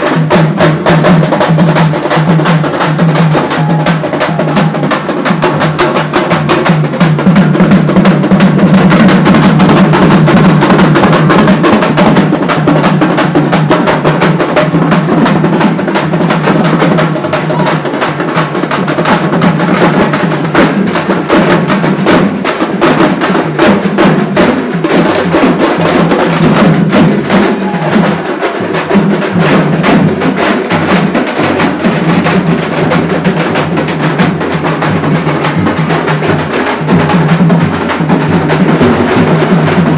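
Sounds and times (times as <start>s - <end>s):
fast festival drumming: 0.0s - 39.9s.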